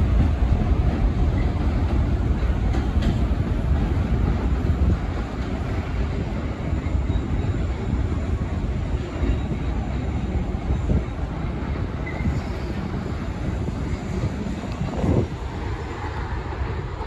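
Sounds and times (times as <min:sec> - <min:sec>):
subway train rumbling on rails: 0:00.0 - 0:17.0.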